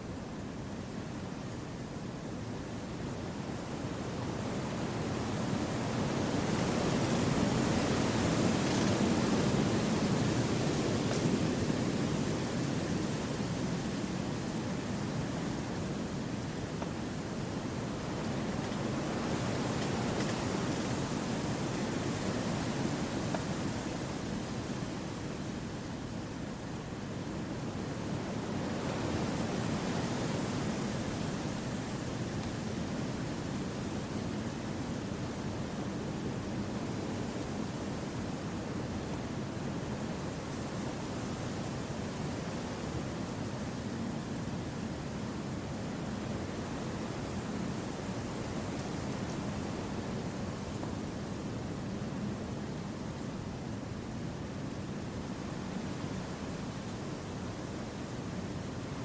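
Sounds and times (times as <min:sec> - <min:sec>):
wind through forest trees: 0:00.0 - 0:59.0.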